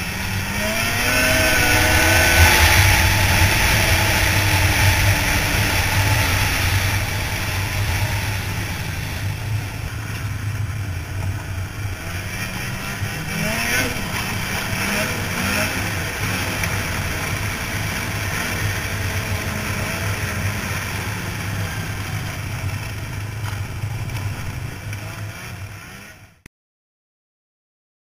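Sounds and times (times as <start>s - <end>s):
wind rushing past microphone: 0.0s - 24.8s
snowmobile engine running: 0.0s - 26.5s.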